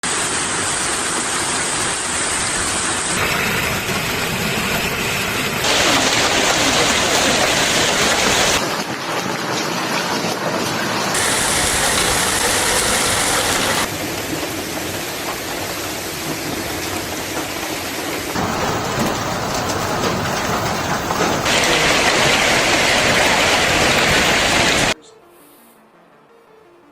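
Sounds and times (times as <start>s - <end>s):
heavy rain and hail pounding: 0.0s - 25.0s.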